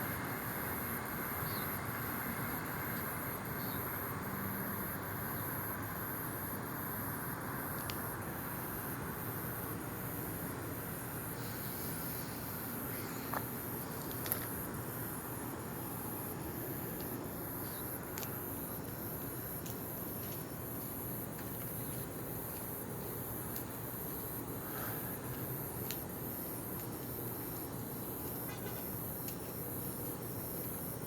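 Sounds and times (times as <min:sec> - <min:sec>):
night insects trilling: 0:00.0 - 0:31.0
steady background hum: 0:00.0 - 0:31.0.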